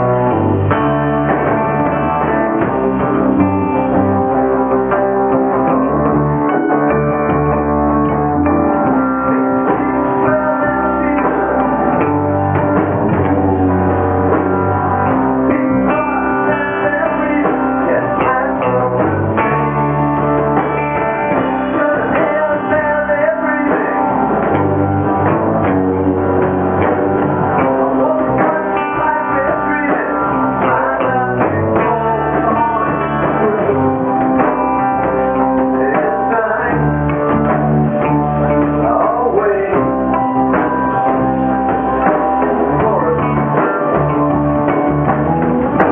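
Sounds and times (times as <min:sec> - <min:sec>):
bass guitar: 0:00.0 - 0:45.9
drum kit: 0:00.0 - 0:45.9
electric guitar chords: 0:00.0 - 0:45.9.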